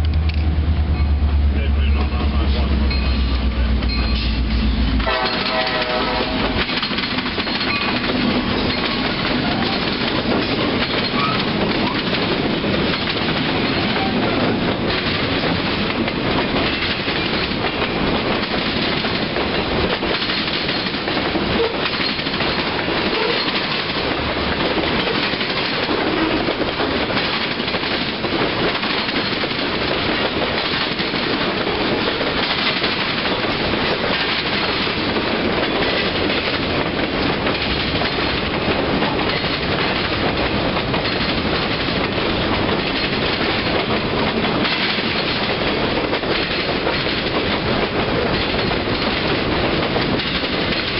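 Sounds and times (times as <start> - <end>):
freight train rumbling past: 0.0 - 50.9
steel wheels clattering on rails: 0.0 - 50.9.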